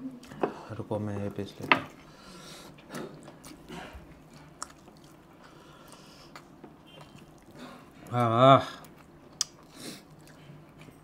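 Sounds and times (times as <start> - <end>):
chewing meat: 1.1 - 11.0.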